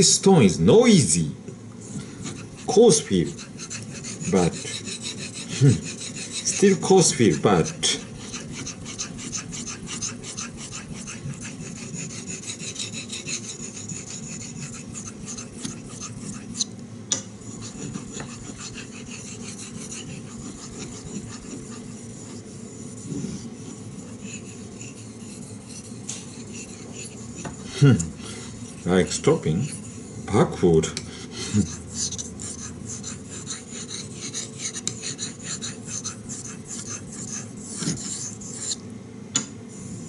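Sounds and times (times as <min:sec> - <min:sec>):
knife scraping on whetstone: 0:01.9 - 0:16.7, 0:17.4 - 0:30.3, 0:31.1 - 0:38.8.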